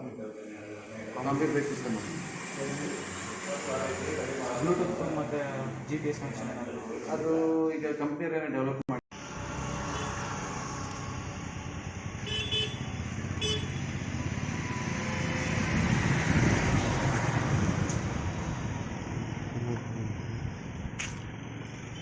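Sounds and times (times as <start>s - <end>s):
road traffic: 0.0s - 7.8s, 9.1s - 22.0s
vehicle passing: 0.4s - 7.7s, 9.1s - 22.0s.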